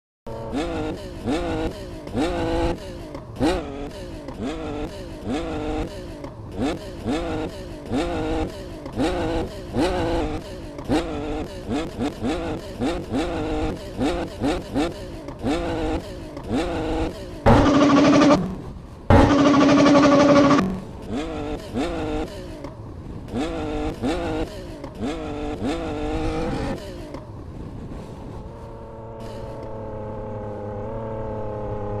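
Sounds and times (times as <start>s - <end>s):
motorcycle engine revving: 0.3s - 27.5s, 28.4s - 32.0s.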